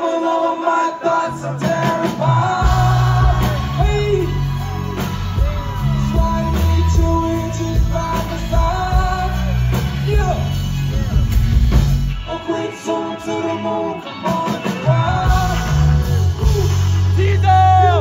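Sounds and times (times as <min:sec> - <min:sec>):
drums: 0:00.0 - 0:18.0
live rock band: 0:00.0 - 0:18.0
singers: 0:00.0 - 0:18.0.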